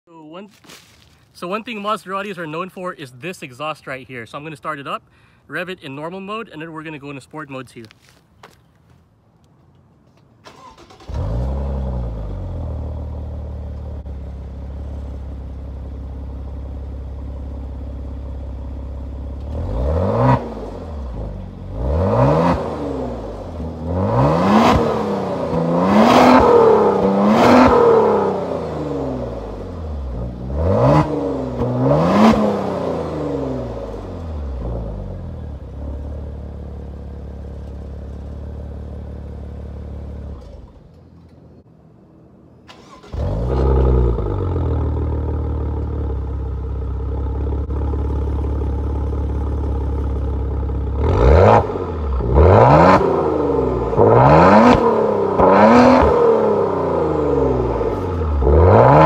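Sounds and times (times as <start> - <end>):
car engine idling and revving: 10.5 - 59.0.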